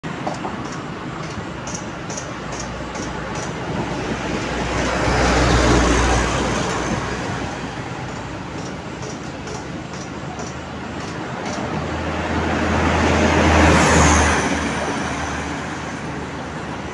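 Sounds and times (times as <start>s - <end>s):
steady traffic noise: 0.0s - 16.9s.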